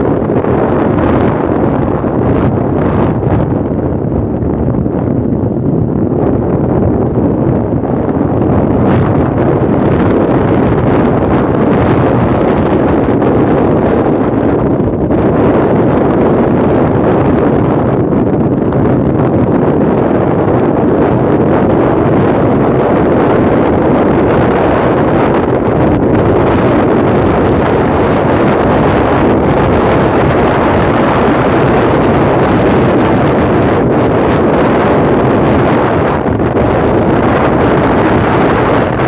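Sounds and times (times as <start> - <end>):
scooter engine and road noise: 0.0 - 39.0
wind buffeting microphone: 0.0 - 39.0.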